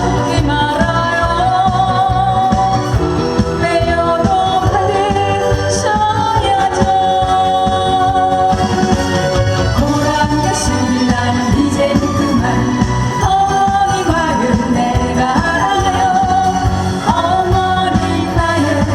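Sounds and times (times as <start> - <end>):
instrumental accompaniment with beat: 0.0 - 18.9.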